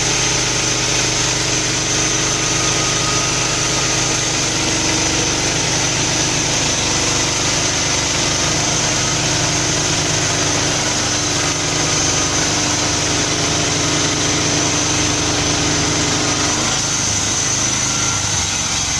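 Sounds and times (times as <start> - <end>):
petrol engine running: 0.0 - 18.9.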